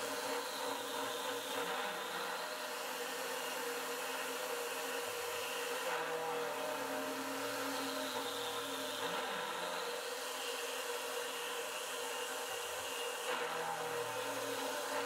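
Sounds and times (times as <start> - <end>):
milling machine spindle whine: 0.0 - 15.0.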